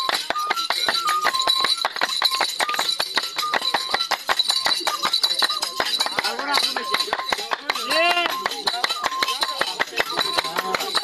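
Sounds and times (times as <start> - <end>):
fast percussive dance beat: 0.0 - 11.0
piping tune: 0.0 - 11.0.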